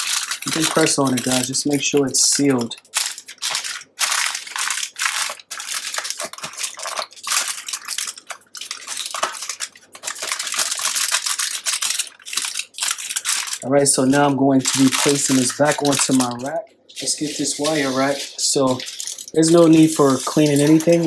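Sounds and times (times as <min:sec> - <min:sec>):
aluminium foil crinkling: 0:00.0 - 0:21.0.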